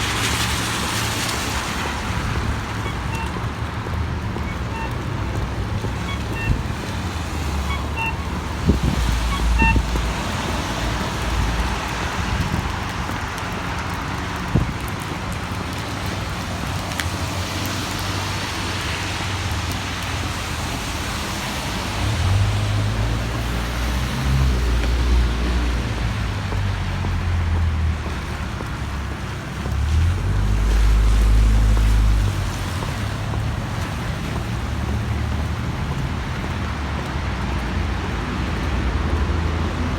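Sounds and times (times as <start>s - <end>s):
passing vehicles rumbling: 0.0s - 39.9s
traffic hiss on wet roads: 0.0s - 39.9s.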